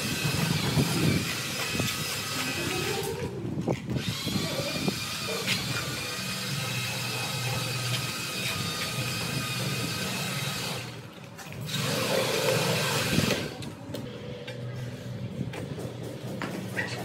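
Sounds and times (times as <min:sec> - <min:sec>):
trowel scraping mortar on concrete: 0:00.0 - 0:13.6
steady mechanical hum: 0:00.0 - 0:17.0.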